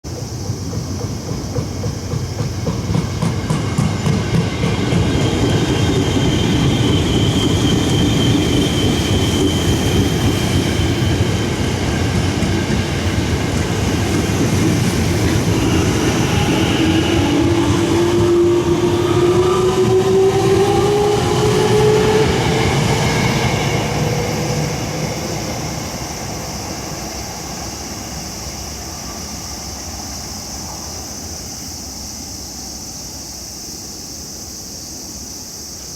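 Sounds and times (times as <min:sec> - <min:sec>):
train wheels clattering on rails: 0:00.1 - 0:31.1.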